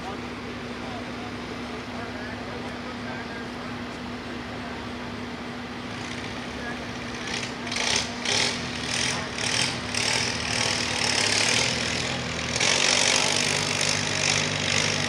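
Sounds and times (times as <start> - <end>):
tractor engine at full throttle: 0.0 - 15.0.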